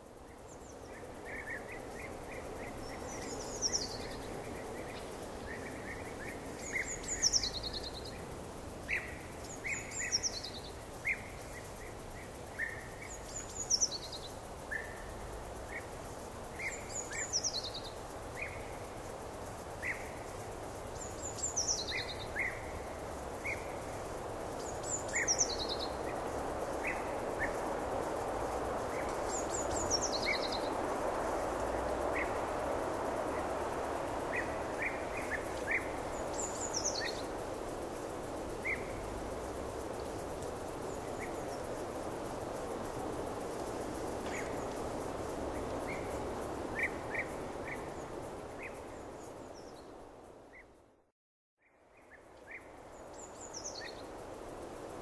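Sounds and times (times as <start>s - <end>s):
songbird singing: 0.0s - 50.8s, 51.6s - 55.0s
background hiss: 0.0s - 55.0s.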